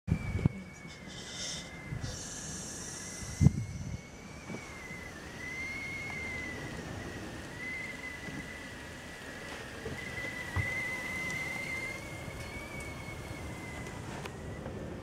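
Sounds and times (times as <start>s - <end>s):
kettle whistling: 0.1s - 15.0s.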